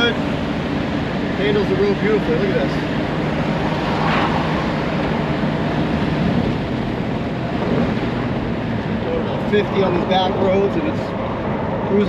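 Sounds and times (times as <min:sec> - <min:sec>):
car engine hum: 0:00.0 - 0:12.0
road and wind noise: 0:00.0 - 0:12.0.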